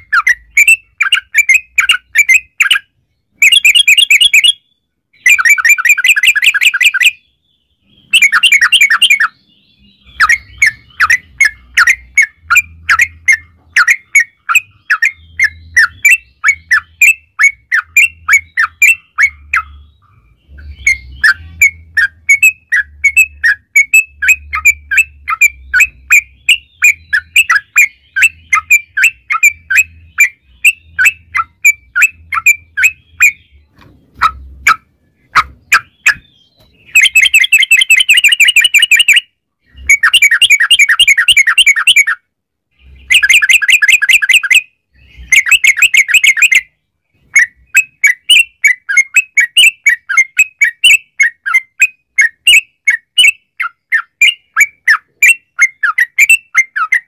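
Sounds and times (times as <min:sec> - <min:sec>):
bulbul singing chirpy notes: 0:00.0 - 0:46.8.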